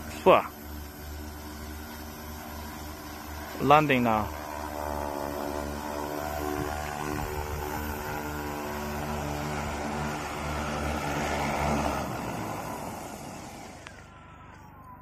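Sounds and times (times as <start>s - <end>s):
rushing propeller wash: 0.0s - 14.2s
drone rotors humming: 0.0s - 15.0s
motors spinning down whine: 0.0s - 15.0s.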